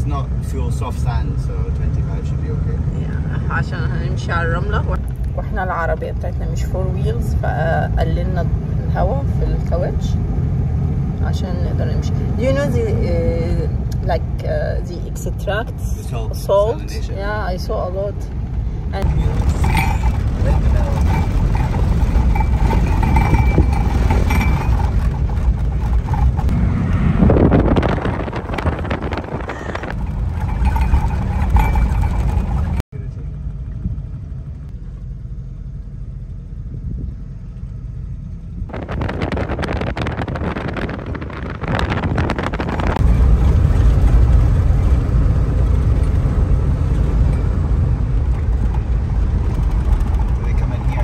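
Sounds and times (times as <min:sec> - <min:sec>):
engine road and wind rumble: 0:00.0 - 0:51.0.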